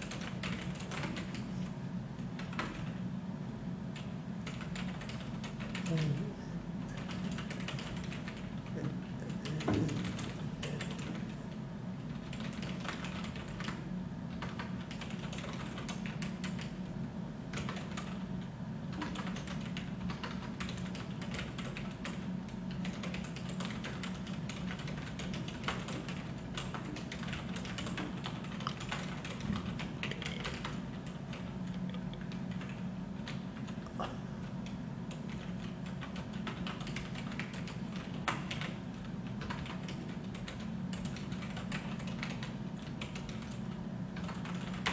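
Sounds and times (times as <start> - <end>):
computer keyboard typing: 0.0 - 1.5, 2.4 - 3.0, 4.0 - 6.1, 7.0 - 11.4, 12.1 - 16.9, 17.5 - 18.2, 18.9 - 44.9
steady low hum: 0.0 - 44.9.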